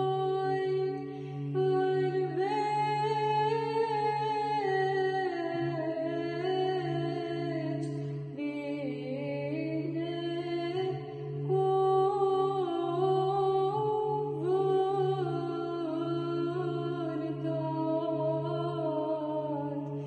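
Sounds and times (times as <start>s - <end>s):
woman chanting: 0.0s - 20.0s.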